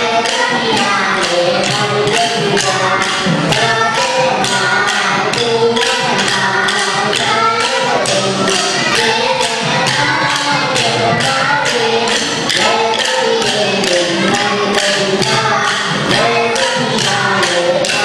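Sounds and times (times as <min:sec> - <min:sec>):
dance sticks clacking: 0:00.0 - 0:18.0
person singing: 0:00.0 - 0:18.0.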